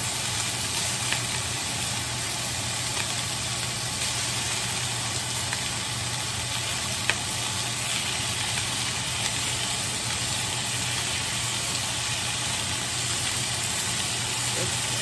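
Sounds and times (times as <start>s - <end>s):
bacon sizzling in skillet: 0.0s - 15.0s.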